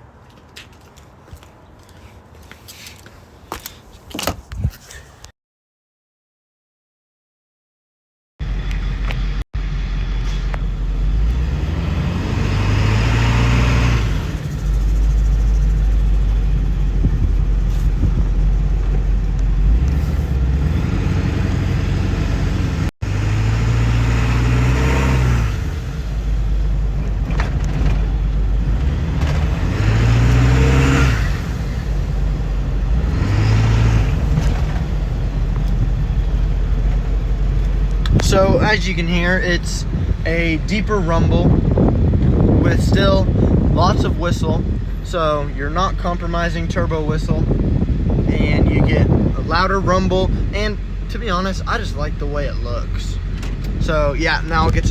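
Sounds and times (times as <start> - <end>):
deep exhaust rumble: 8.4 - 54.9.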